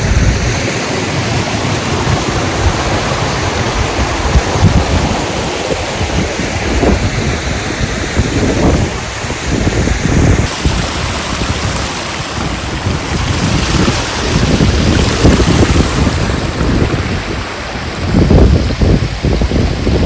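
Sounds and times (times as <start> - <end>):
rushing water: 0.0 - 20.0
wind buffeting microphone: 0.0 - 20.0.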